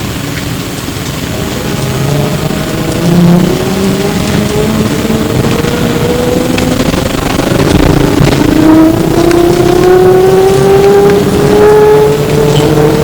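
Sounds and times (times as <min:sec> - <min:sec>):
road noise: 0:00.0 - 0:13.0
electric motor whine: 0:01.3 - 0:13.0.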